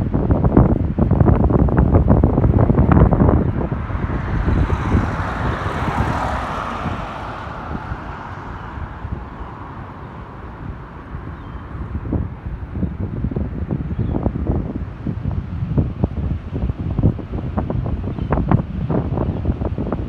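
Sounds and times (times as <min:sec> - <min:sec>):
broad rushing noise: 0:00.0 - 0:17.8
wind buffeting microphone: 0:00.0 - 0:20.0.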